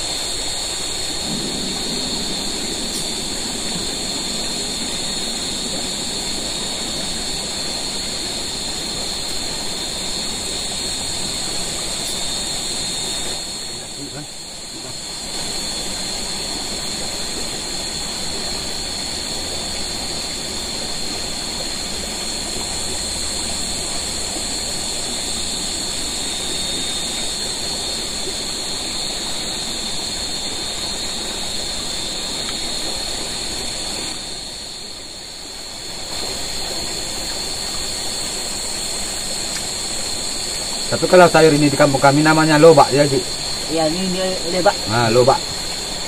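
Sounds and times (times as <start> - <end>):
high-pitched whine: 0.0 - 46.0
running water rushing: 0.0 - 46.0.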